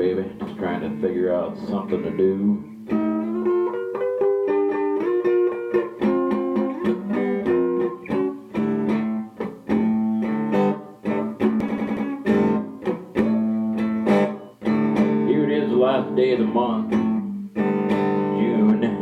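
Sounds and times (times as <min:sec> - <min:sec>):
blues guitar playing: 0:00.0 - 0:19.0.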